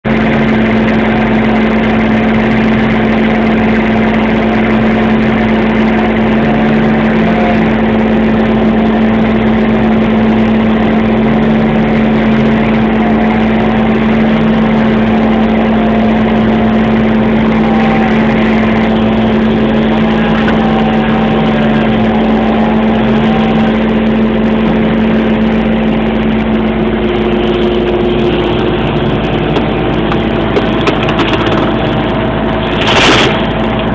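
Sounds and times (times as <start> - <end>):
chainsaw engine running: 0.0 - 33.9.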